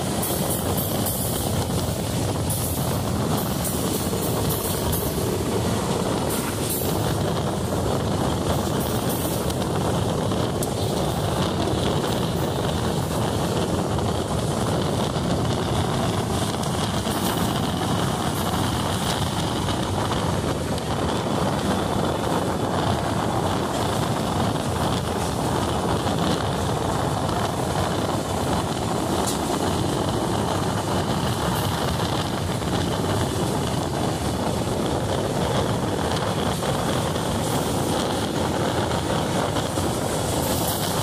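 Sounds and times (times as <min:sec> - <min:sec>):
train rumbling along track: 0:00.0 - 0:41.0.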